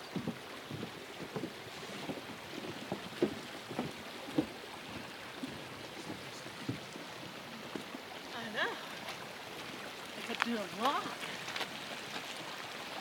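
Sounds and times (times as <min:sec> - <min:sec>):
footsteps on wooden boardwalk: 0:00.0 - 0:13.0.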